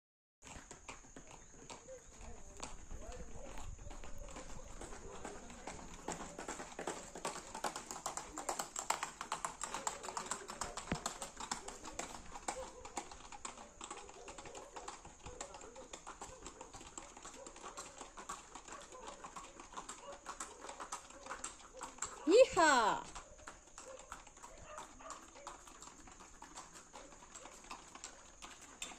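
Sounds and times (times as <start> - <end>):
horse hooves on concrete: 0.4 - 28.9.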